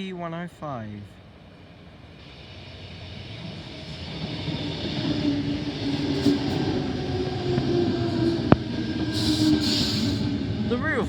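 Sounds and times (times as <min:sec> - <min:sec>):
train rumbling: 0:00.9 - 0:11.0.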